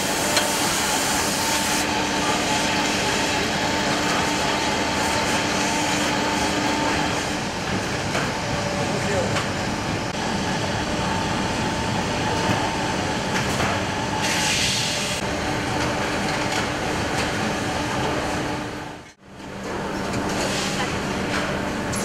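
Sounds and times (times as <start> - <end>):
machinery hum: 0.0 - 22.0.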